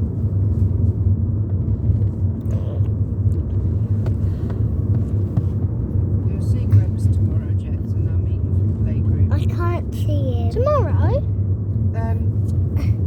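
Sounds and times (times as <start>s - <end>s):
car engine drone and road noise: 0.0s - 13.0s.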